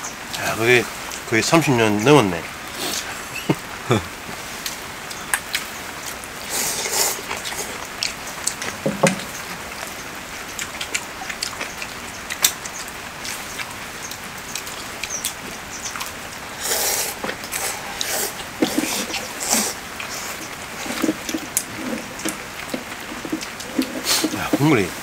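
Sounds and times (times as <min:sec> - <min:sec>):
rain pattering: 0:00.0 - 0:25.0
sharp water drips: 0:00.0 - 0:25.0
eating sounds: 0:02.6 - 0:25.0.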